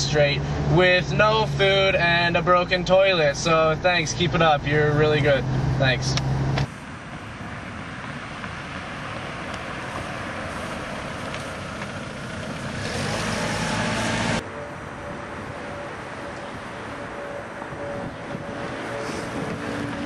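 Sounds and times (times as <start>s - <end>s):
vehicle rushing on road: 0.0s - 20.0s.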